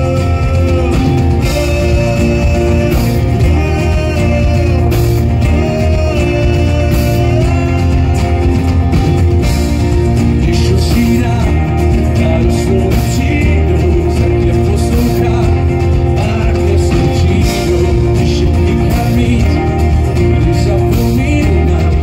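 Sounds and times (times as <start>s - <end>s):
live band music with guitar: 0.0s - 22.0s.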